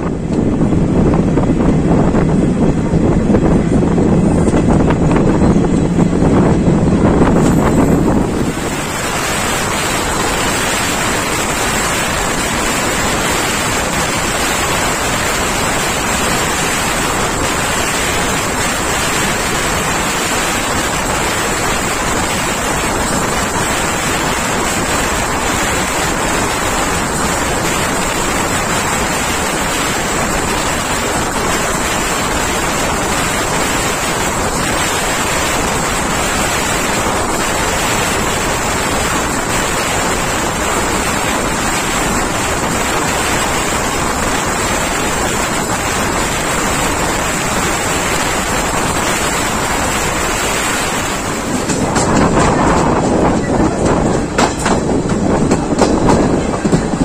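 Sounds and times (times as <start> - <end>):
train running at speed: 0.0 - 57.0
wind buffeting microphone: 0.0 - 57.0.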